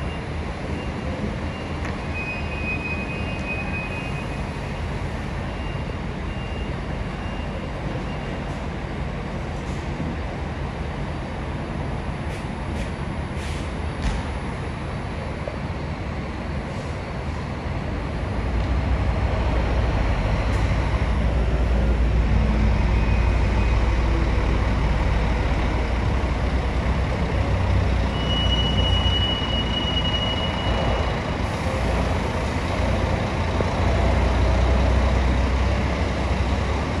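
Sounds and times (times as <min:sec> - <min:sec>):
bus diesel engine rumbling: 0:00.0 - 0:37.0.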